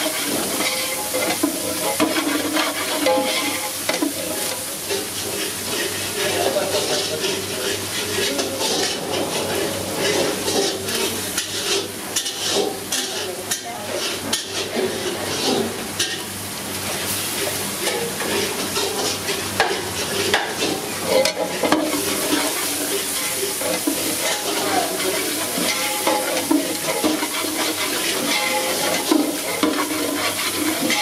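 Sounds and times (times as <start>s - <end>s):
metal ladle scraping pan: 0.0s - 16.2s, 17.8s - 31.0s
food sizzling in hot oil: 0.0s - 31.0s.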